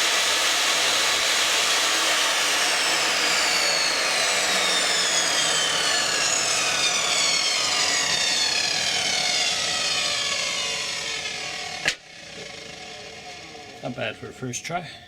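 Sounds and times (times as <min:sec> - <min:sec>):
table saw blade whine spinning down: 0:00.0 - 0:14.8.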